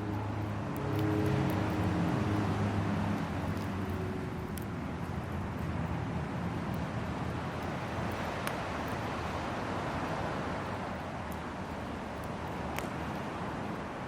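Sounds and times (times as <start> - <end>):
wood crackling: 0.0 - 13.9.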